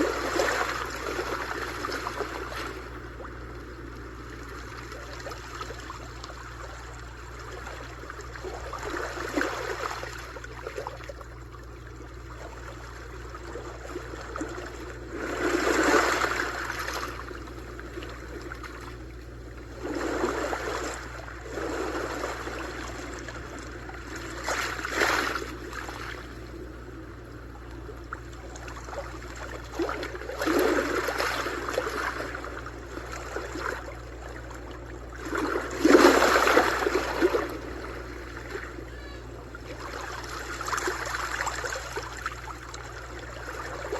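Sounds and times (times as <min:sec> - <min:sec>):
sea waves washing in: 0:00.0 - 0:43.9.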